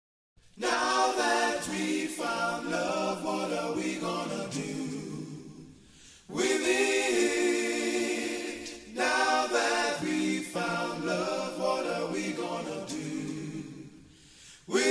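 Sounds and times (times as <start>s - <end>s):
voices singing in harmony: 0.5s - 14.9s.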